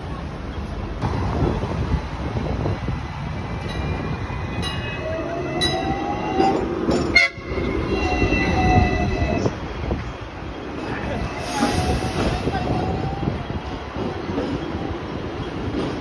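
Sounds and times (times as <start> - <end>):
tram wheel and track rumble: 0.0 - 16.0.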